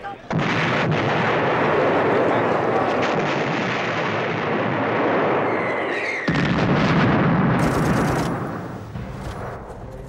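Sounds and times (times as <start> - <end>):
artillery fire and explosions: 0.3 - 10.0.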